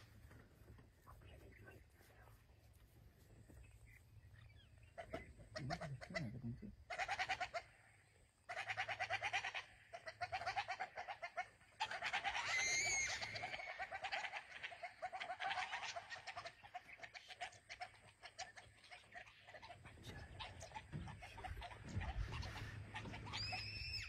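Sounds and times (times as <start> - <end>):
wild dogs chattering alarm calls: 4.4 - 24.0.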